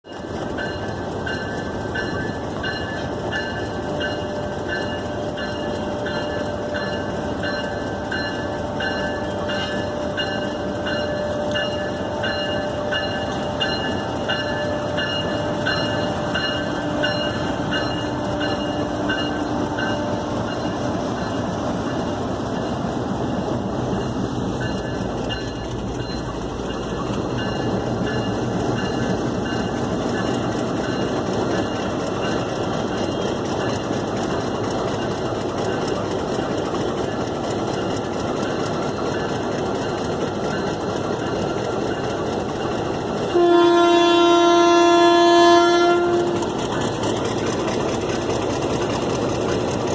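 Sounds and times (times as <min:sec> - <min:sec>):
diesel locomotive running: 0:00.0 - 0:49.9.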